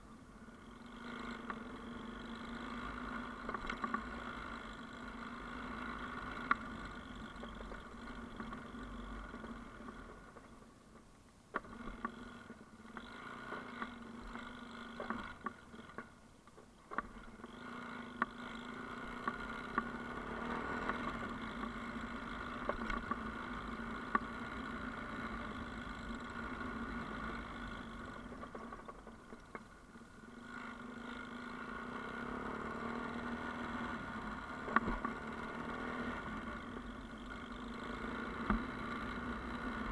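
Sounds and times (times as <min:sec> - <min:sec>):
motorcycle engine running: 0:00.0 - 0:11.0, 0:11.6 - 0:39.9.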